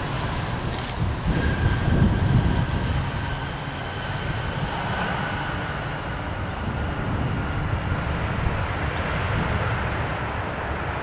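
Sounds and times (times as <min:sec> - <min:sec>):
faint jet engine whine: 0:00.0 - 0:11.0
jet engines rumbling: 0:00.0 - 0:11.0.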